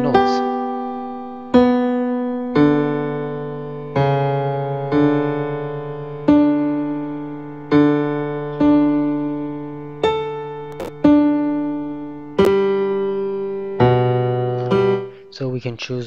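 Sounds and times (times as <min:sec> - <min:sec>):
piano notes: 0:00.0 - 0:15.9.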